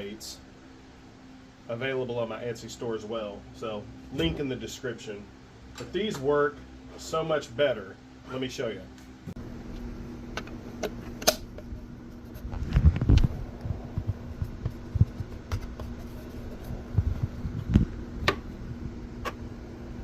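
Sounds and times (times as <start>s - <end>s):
fan motor hum: 0.0s - 20.0s.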